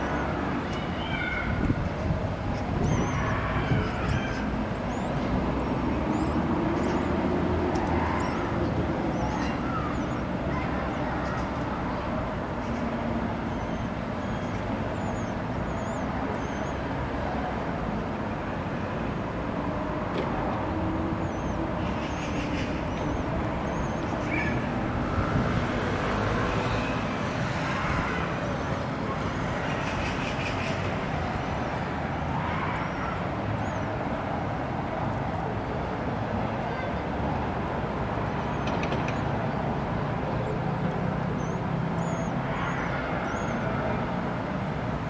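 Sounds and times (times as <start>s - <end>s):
urban traffic noise: 0.0s - 45.0s.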